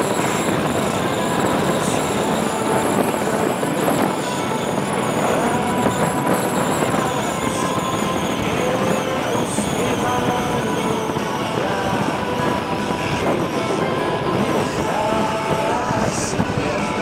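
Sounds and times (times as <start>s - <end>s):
faint music from speakers: 0.0s - 17.0s
wind rush over microphone: 0.0s - 17.0s.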